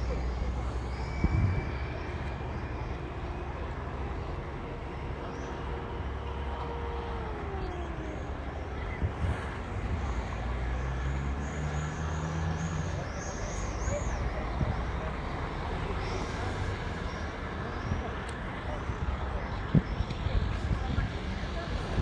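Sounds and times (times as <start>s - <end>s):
car engine hum: 0.0s - 22.0s
vehicles driving slowly past: 0.0s - 22.0s.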